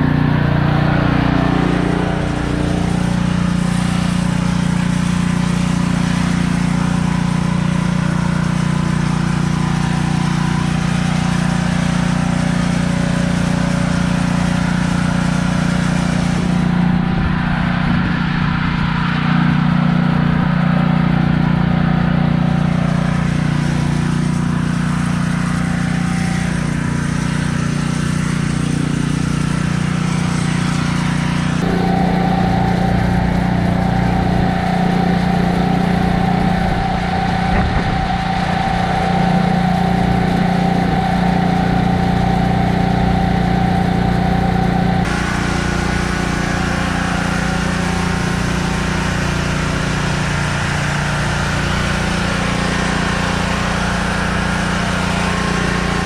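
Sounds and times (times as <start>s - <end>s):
pressure washer engine running: 0.0s - 56.0s.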